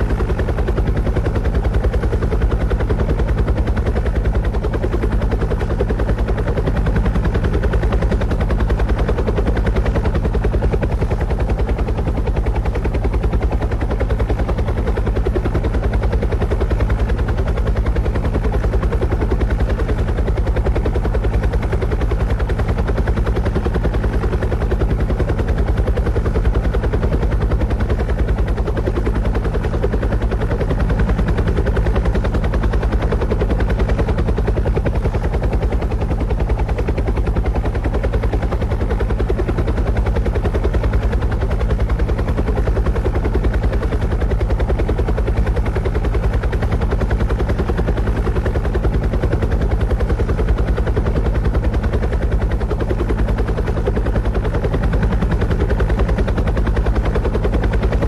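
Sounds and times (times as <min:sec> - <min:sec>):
rotor blades beating: 0:00.0 - 0:58.0.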